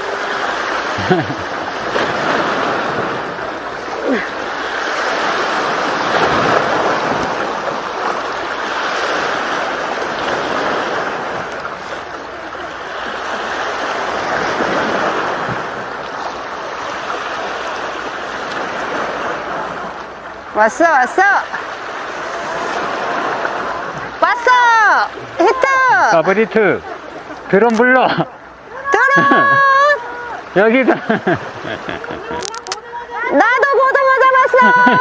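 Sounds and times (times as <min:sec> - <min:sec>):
waves washing against rocks: 0:00.0 - 0:35.0.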